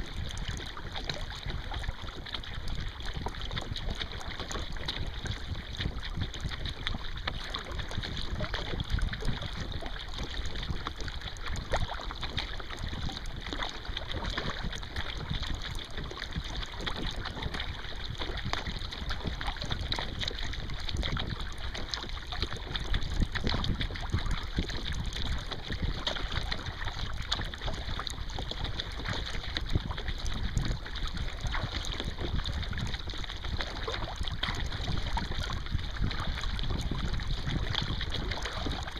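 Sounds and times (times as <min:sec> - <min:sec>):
water splashing around kayak: 0:00.0 - 0:38.9
wind on microphone: 0:00.0 - 0:38.9.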